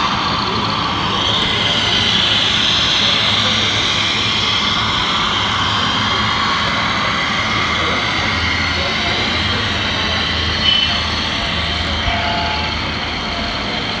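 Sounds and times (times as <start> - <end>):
electric motor whine: 0.4 - 13.9.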